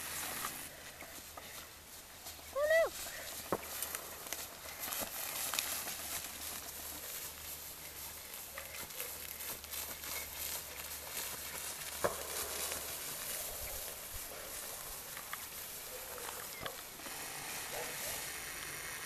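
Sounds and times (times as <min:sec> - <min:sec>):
tall grass rustling: 0:00.0 - 0:19.0
faint footfalls: 0:01.0 - 0:17.0.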